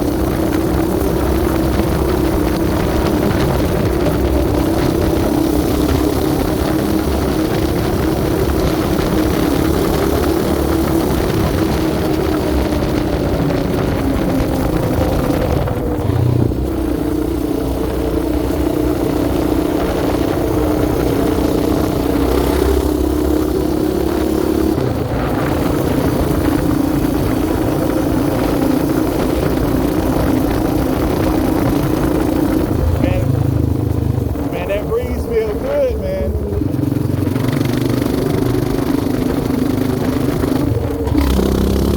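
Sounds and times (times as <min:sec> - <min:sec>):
quad bike engine running: 0:00.0 - 0:41.9.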